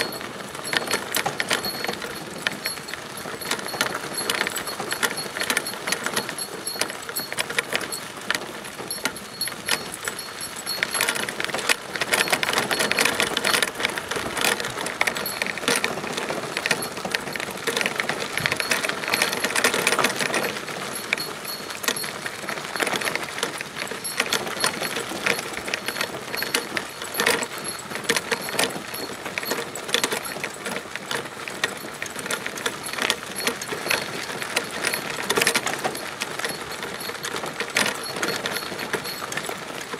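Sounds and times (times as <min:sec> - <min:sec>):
cart wheels crunching on gravel: 0:00.0 - 0:39.9
metal hardware rattling and jingling: 0:00.0 - 0:39.9.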